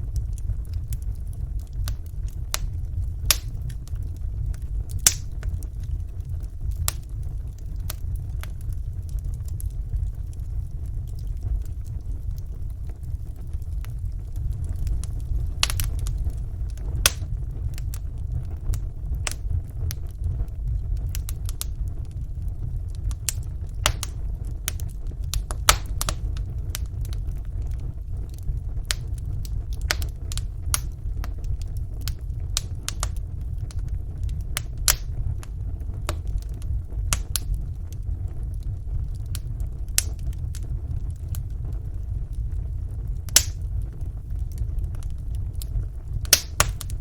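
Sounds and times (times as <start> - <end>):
wood fire crackling in fireplace: 0.0 - 47.0.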